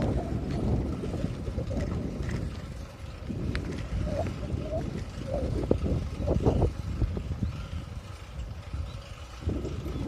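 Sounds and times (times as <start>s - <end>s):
road rumble: 0.0s - 10.0s
wind buffeting microphone: 0.0s - 10.0s.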